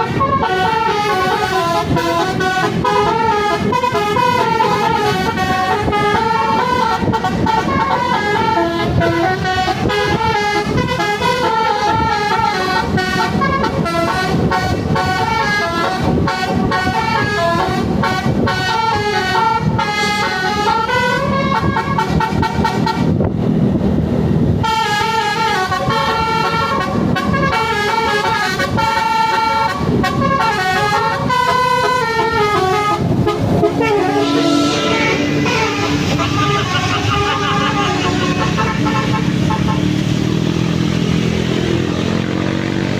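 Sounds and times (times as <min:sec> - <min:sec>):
bus horn playing multi-tone melodies: 0:00.0 - 0:42.9
engine low rumble: 0:00.0 - 0:42.9.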